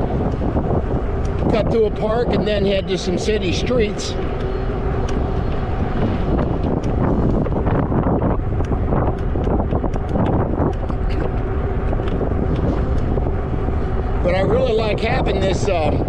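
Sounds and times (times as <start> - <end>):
bike rumbling on pavement: 0.0 - 16.0
faint steady hum: 0.0 - 16.0
wind buffeting microphone: 0.0 - 16.0.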